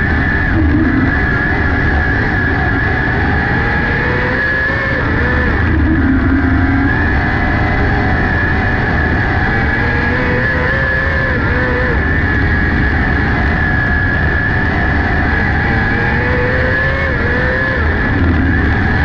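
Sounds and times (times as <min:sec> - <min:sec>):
constant rushing noise: 0:00.0 - 0:19.0
motorcycle engine racing: 0:00.0 - 0:19.0.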